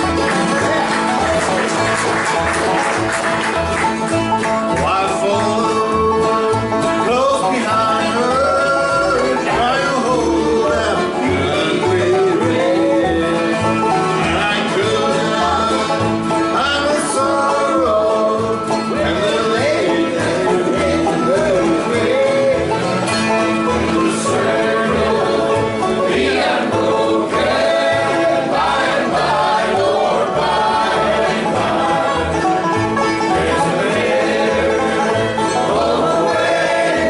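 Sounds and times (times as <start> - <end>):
banjo picking: 0.0 - 37.0
guitar picking: 0.0 - 37.0
sliding melody line: 0.0 - 37.0.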